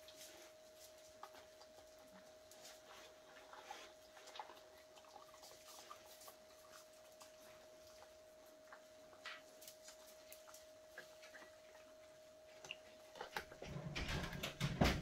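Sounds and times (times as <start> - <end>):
faint steady tone: 0.0 - 13.4
pets crunching dry kibble: 0.0 - 14.9.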